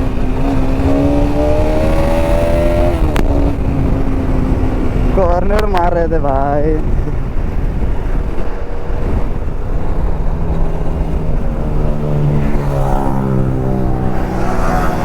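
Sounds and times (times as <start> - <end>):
motorcycle engine running: 0.0 - 15.0
wind rush on microphone: 0.0 - 15.0.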